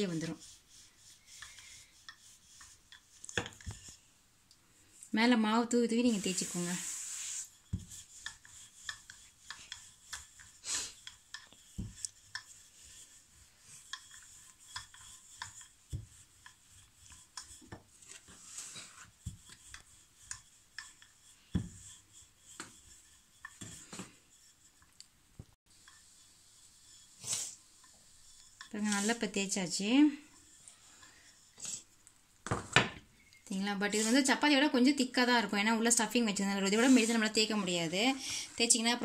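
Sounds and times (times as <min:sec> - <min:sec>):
rolling pin rubbing on dough: 0:00.0 - 0:04.1, 0:05.6 - 0:25.0, 0:25.7 - 0:32.0, 0:33.5 - 0:39.0.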